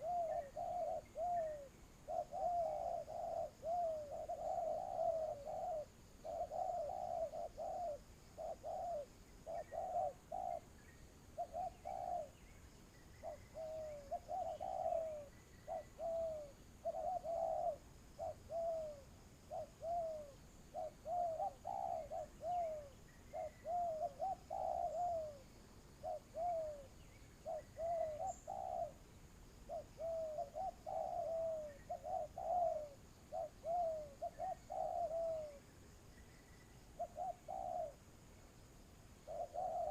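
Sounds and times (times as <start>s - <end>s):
doves cooing: 0.0s - 10.8s, 11.4s - 12.4s, 13.2s - 29.0s, 29.7s - 35.6s, 37.0s - 38.0s, 39.2s - 39.9s.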